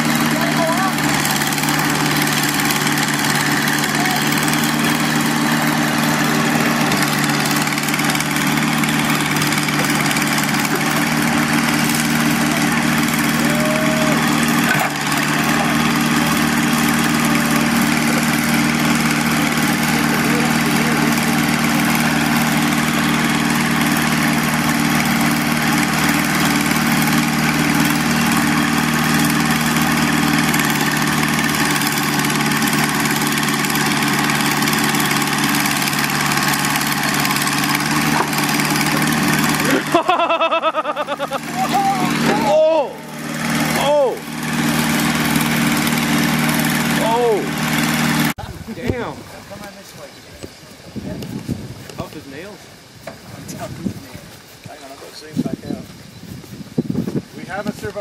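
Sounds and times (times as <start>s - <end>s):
diesel engine idling: 0.0s - 50.2s.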